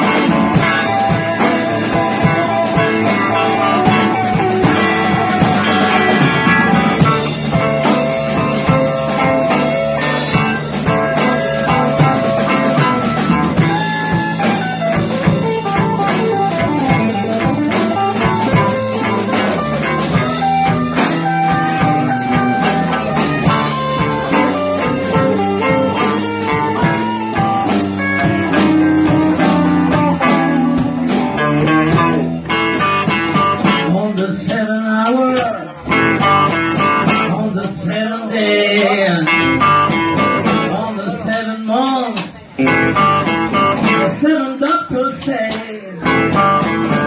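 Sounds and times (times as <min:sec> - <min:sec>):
bass: 0:00.0 - 0:47.0
drum kit: 0:00.0 - 0:47.0
guitar: 0:00.0 - 0:47.0.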